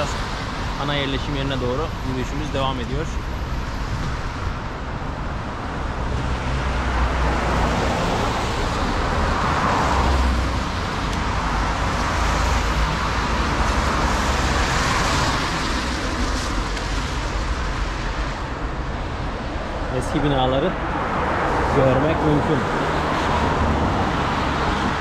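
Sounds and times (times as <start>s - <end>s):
cars passing: 0.0s - 25.0s
steady traffic hum: 0.0s - 25.0s.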